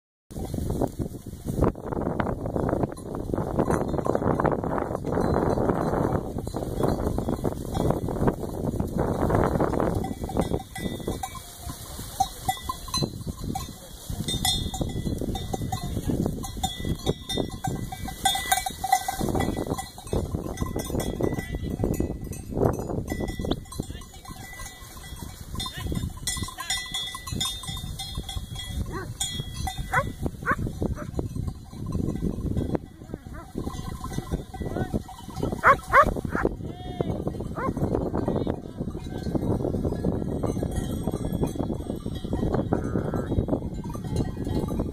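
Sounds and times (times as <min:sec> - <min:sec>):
sheep bells clinking: 0:00.3 - 0:44.9
wind rumble on microphone: 0:00.3 - 0:44.9.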